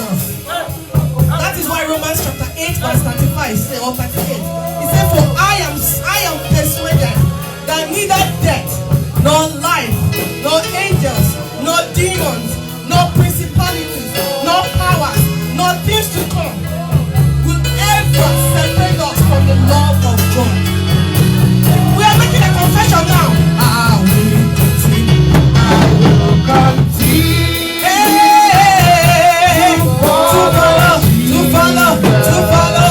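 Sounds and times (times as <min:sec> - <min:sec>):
song with singing and bass: 0:00.0 - 0:32.9.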